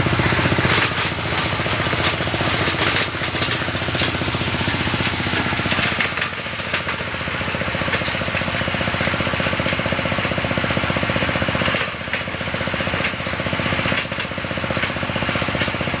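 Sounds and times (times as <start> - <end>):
stone grinding machine running: 0.0 - 16.0.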